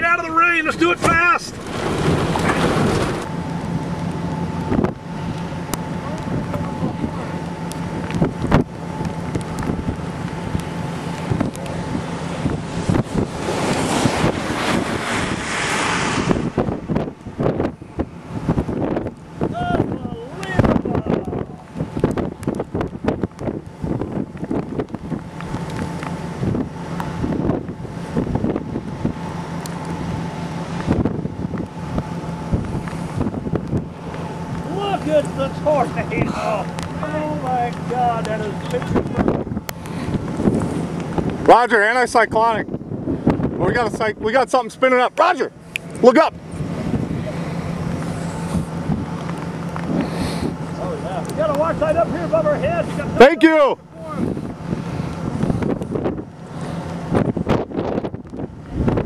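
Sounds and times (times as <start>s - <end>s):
vehicle engine hum: 0.0s - 59.0s
wind and road noise: 0.0s - 59.0s.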